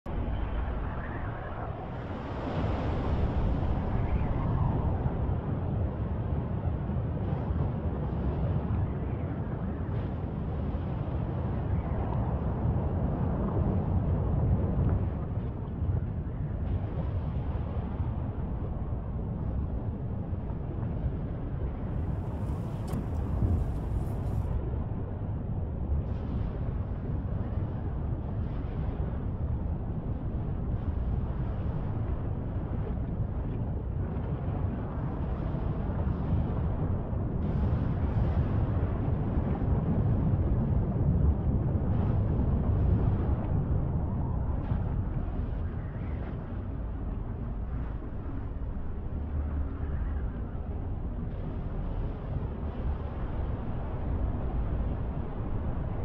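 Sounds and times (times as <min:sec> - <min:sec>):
volcano rumbling: 0:00.1 - 0:56.0.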